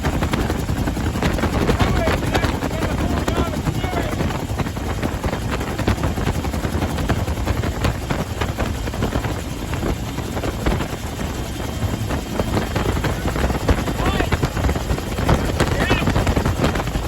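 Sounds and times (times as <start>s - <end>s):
helicopter engine rumble: 0.0s - 17.0s
helicopter rotor chop: 0.0s - 17.0s.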